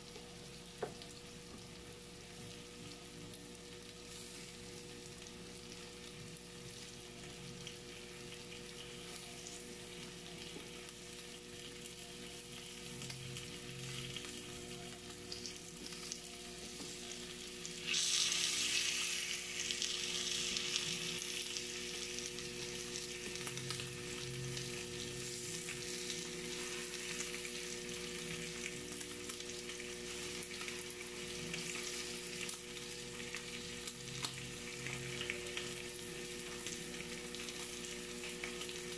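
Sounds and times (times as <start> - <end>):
meat sizzling on a grill: 0.0 - 38.9.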